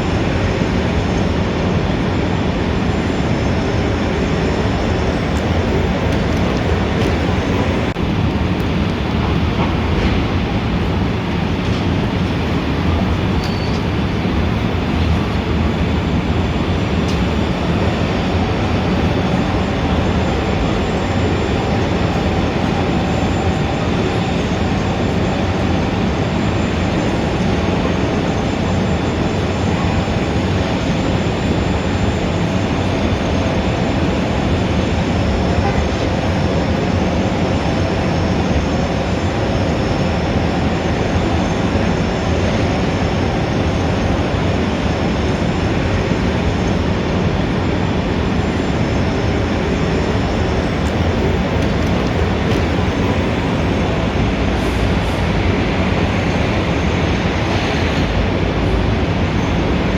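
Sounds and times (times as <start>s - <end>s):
dense traffic rumble: 0.0s - 59.9s.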